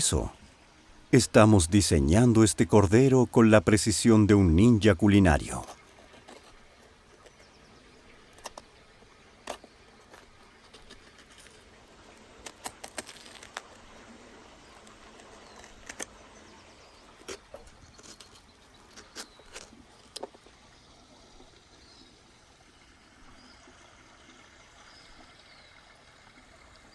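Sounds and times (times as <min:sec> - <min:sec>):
faint steady background noise: 0:00.0 - 0:26.9.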